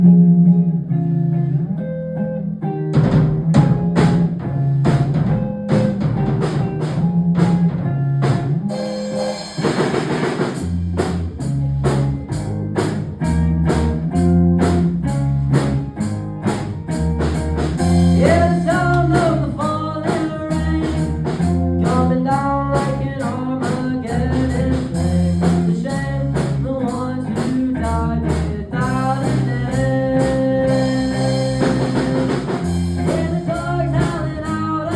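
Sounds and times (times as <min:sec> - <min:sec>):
bass line: 0:00.0 - 0:34.9
guitar: 0:00.0 - 0:34.9
drum kit: 0:02.9 - 0:34.9.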